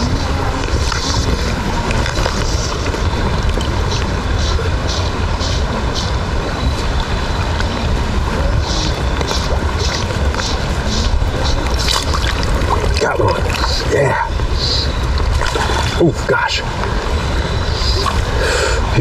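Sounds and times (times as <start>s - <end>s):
stream water rushing: 0.0s - 19.0s
wind rumbling on microphone: 0.0s - 19.0s.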